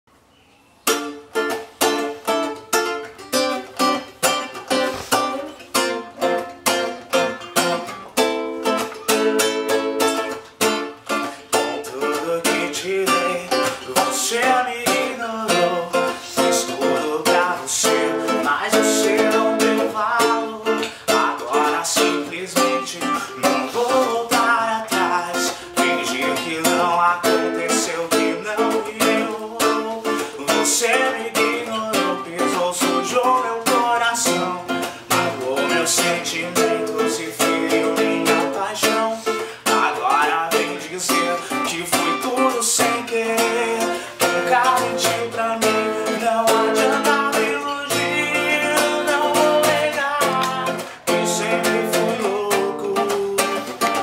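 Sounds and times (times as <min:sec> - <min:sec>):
plucked string melody: 0:00.8 - 0:54.0
plucked strings strumming chords: 0:00.8 - 0:54.0.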